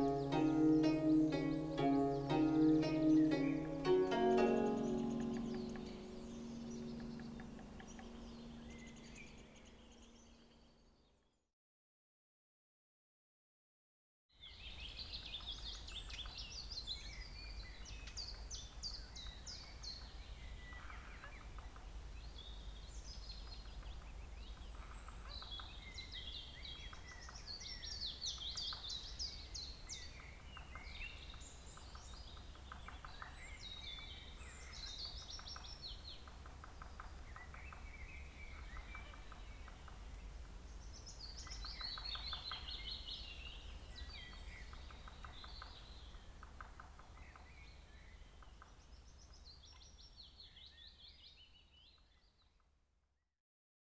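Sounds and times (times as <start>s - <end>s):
songbirds singing: 0.0s - 10.8s, 14.4s - 52.5s.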